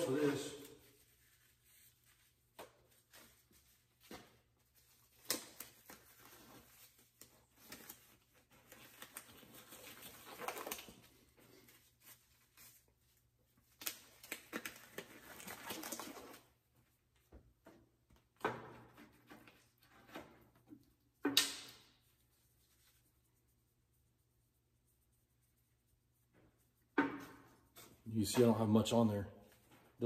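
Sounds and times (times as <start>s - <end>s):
rubber gloves rustling: 0.0s - 28.8s.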